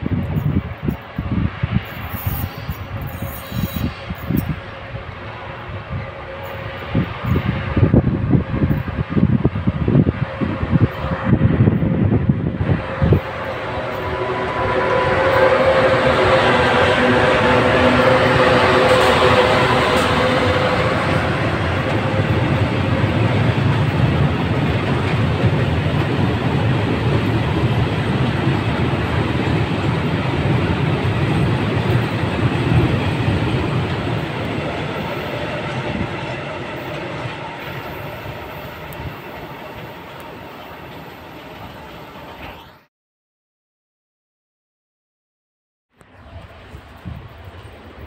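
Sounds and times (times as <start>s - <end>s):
train wheels rolling on rails: 0.0s - 42.8s, 46.0s - 48.0s
electric locomotive hum: 0.0s - 42.9s, 46.0s - 48.0s.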